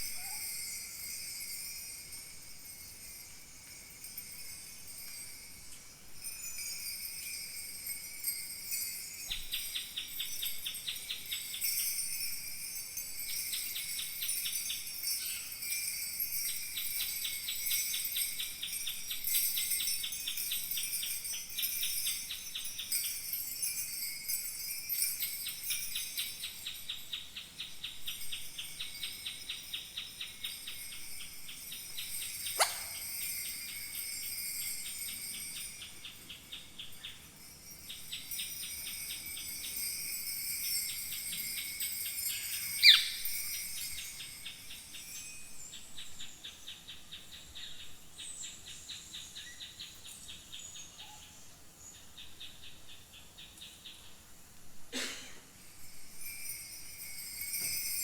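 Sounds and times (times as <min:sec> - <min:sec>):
bronze bells jingling: 0:00.0 - 0:48.7, 0:55.5 - 0:58.0.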